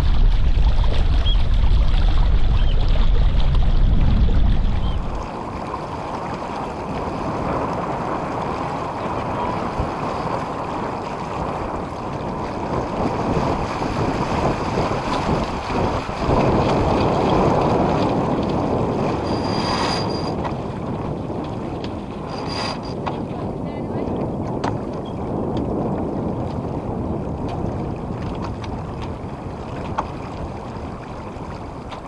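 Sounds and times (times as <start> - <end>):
water rushing past hull: 0.0 - 32.0
wind buffeting microphone: 0.0 - 32.0.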